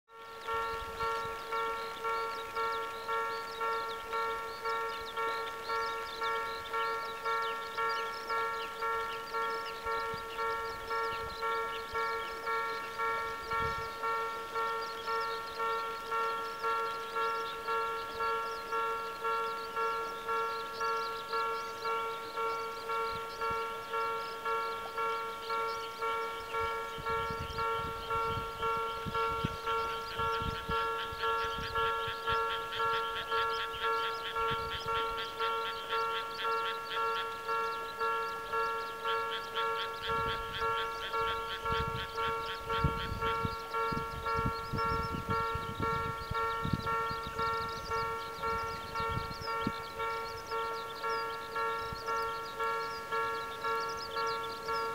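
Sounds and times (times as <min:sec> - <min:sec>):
level crossing warning bell ringing: 0:00.1 - 0:54.9.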